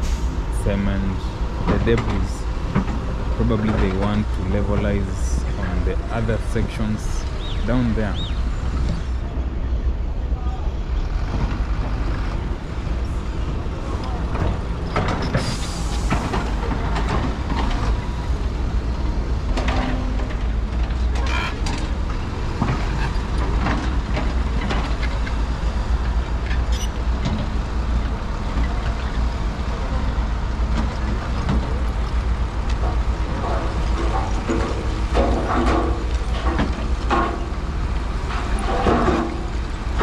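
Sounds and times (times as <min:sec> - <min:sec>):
trucks and machinery rumbling: 0:00.0 - 0:40.0.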